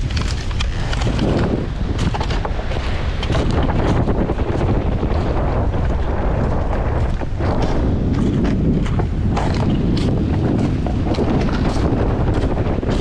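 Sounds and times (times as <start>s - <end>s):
pebbles and driftwood clattering: 0.0s - 13.0s
wind buffeting microphone: 0.0s - 13.0s.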